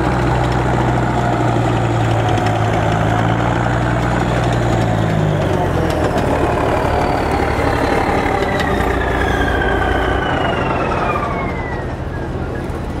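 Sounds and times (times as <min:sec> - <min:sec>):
tracked vehicle driving past: 0:00.0 - 0:13.0.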